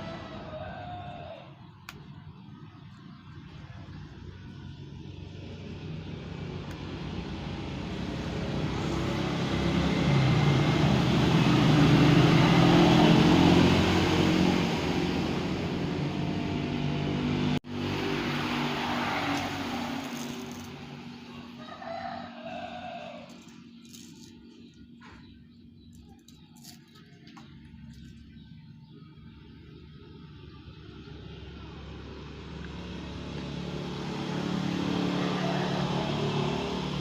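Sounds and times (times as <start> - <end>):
vehicle engine passing by: 0.0 - 37.0.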